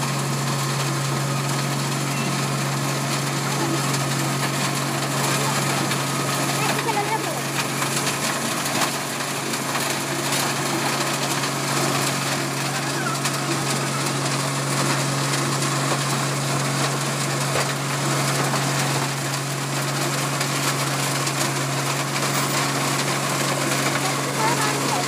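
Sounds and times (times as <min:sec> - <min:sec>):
milling machine engine drone: 0:00.0 - 0:25.0.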